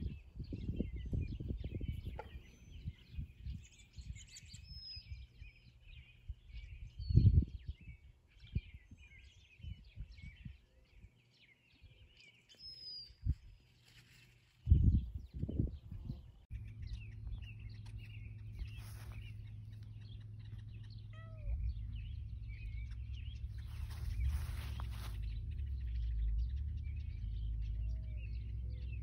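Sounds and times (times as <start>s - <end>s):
wind rumbling on microphone: 0.0s - 12.2s, 13.0s - 29.0s
birds chirping and calling: 0.0s - 29.0s.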